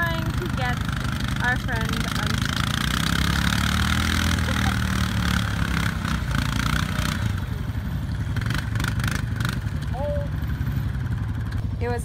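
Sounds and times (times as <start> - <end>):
quad engine rumbling: 0.0 - 12.0.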